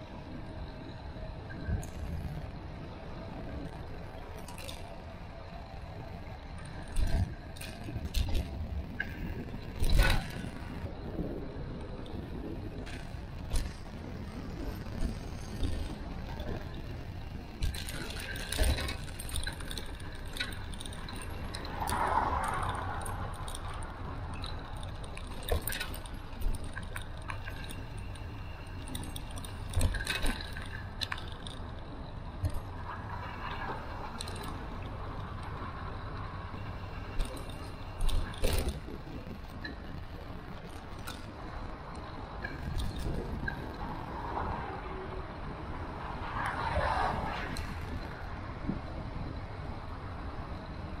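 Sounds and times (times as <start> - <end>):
bicycle clinks and rattles: 0.0 - 51.0
bicycle ride rumble: 0.0 - 51.0.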